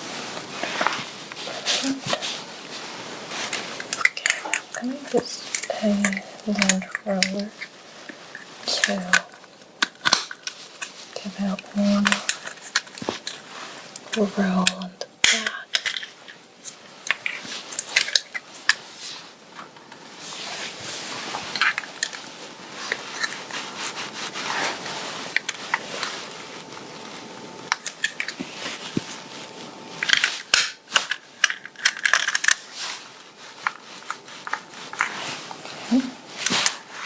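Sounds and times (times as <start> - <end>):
lint roller crackling on fabric: 0.0 - 15.5, 16.1 - 37.0.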